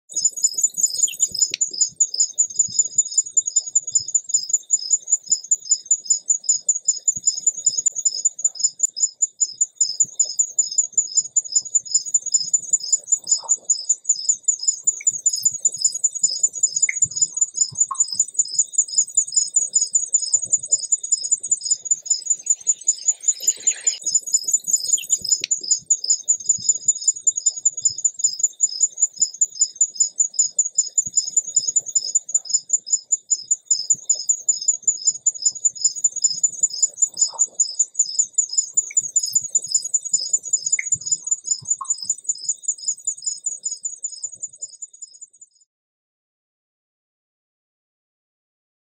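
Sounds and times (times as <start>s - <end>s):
insect chirping: 0.1s - 45.6s.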